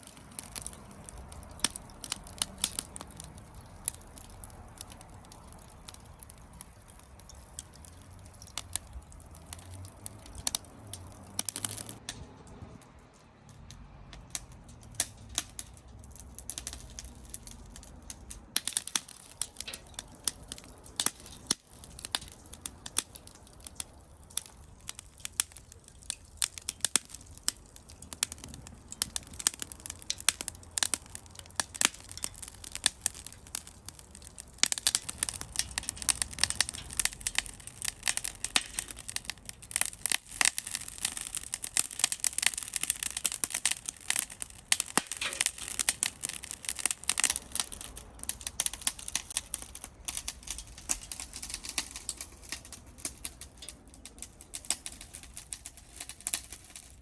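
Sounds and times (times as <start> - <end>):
charcoal crackling and popping: 0.0 - 57.0.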